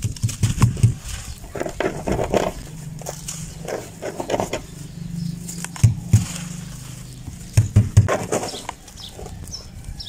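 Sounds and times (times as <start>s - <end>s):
dry clay crunching: 0.0s - 10.0s.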